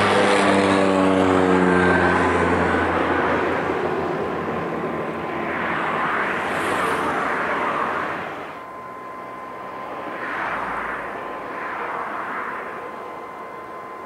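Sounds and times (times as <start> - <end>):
propeller plane passing by: 0.0 - 14.0.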